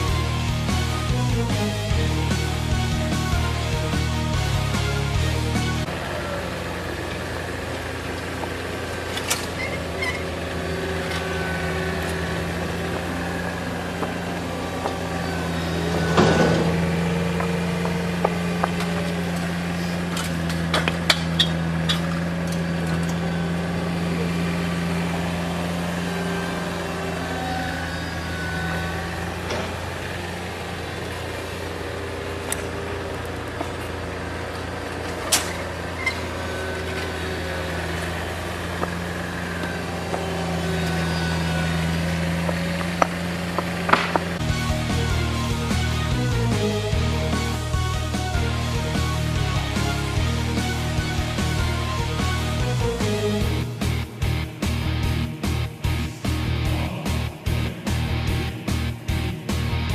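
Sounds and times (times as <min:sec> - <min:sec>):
diesel construction machinery running: 0:00.0 - 0:59.9.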